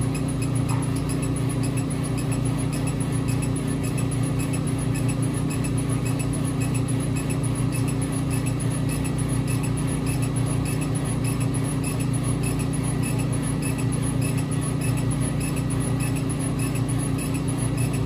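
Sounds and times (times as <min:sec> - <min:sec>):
faint regular ticks: 0:00.0 - 0:18.0
laser cutter humming: 0:00.0 - 0:18.0.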